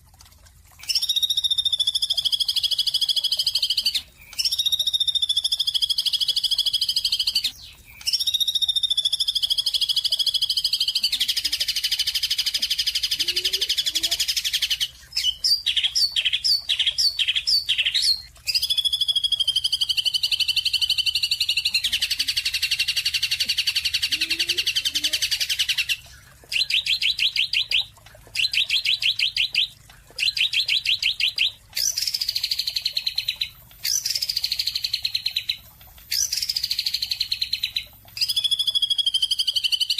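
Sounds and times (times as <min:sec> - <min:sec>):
songbird singing: 0:00.8 - 0:39.9.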